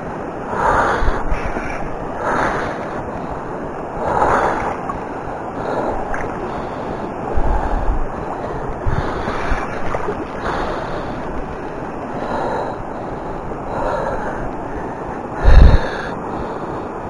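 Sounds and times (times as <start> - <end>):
river water rushing: 0.0 - 17.0
wind buffeting microphone: 0.0 - 17.0.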